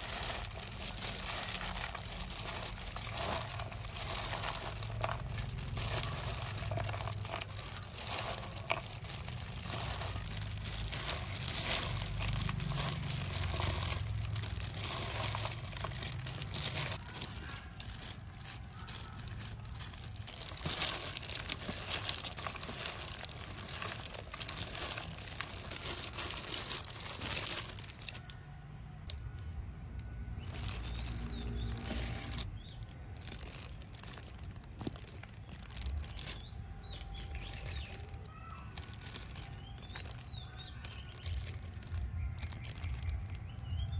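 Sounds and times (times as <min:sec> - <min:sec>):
food crinkling and tearing: 0:00.0 - 0:28.4, 0:29.0 - 0:43.9.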